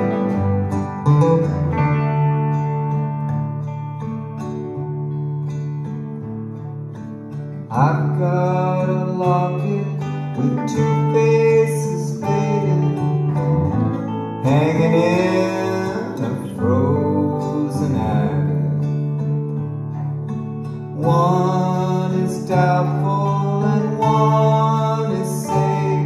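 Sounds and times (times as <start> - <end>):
acoustic guitar: 0.0 - 26.0
electric guitar: 0.0 - 26.0.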